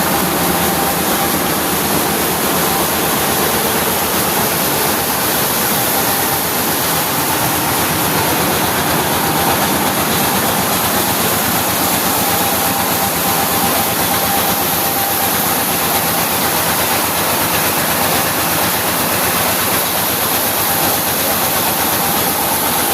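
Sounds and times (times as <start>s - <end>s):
rice milling machine running: 0.0s - 22.9s.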